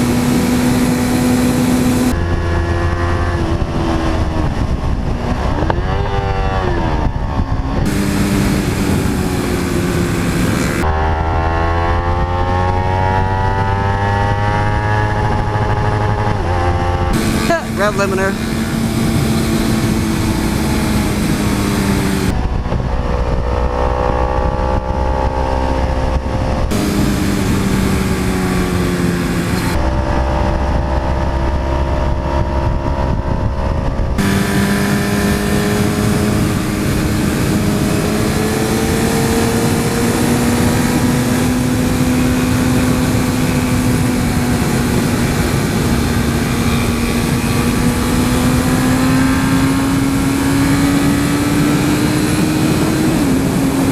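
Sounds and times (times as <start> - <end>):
duller motorcycle engine: 0.0 - 53.9
motorcycle engine at speed: 0.0 - 53.9
wind rush: 0.0 - 53.9.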